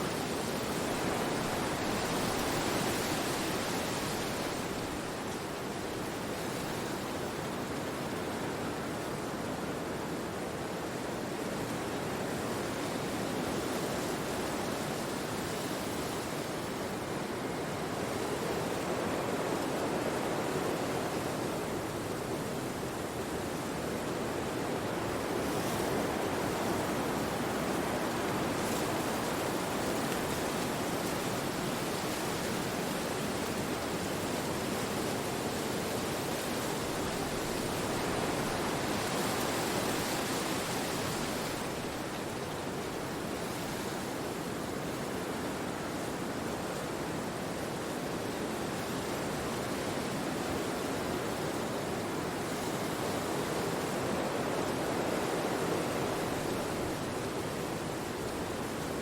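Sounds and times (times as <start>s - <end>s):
wind rushing through trees: 0.0s - 59.0s.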